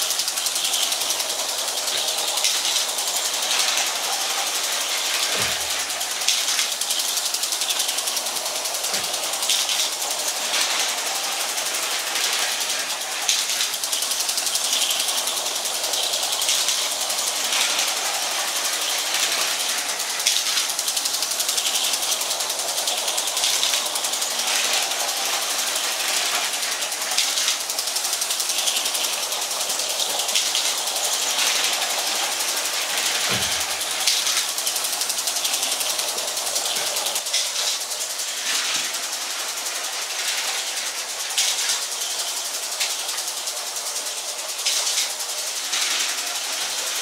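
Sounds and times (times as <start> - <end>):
toy train rattling on track: 0.0 - 47.0.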